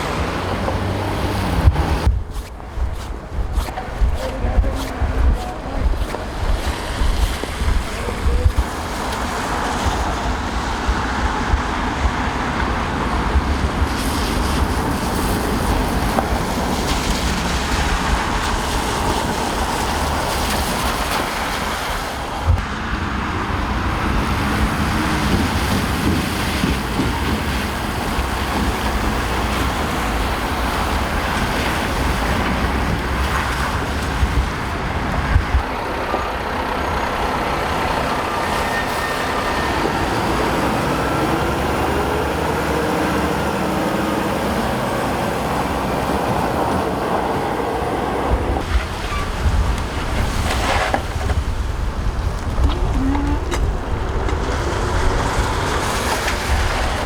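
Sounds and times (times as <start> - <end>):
road traffic: 0.0 - 57.0
wind buffeting microphone: 0.0 - 57.0.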